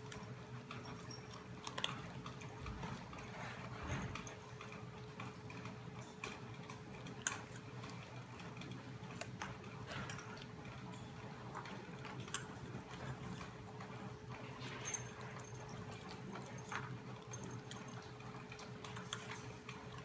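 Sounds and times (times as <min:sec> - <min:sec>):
puppies eating from metal bowl: 0:00.0 - 0:20.0.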